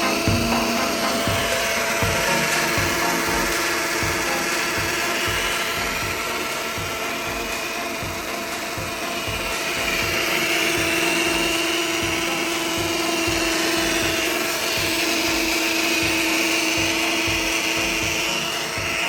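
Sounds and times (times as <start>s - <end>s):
electric water pump whirring: 0.0s - 19.0s.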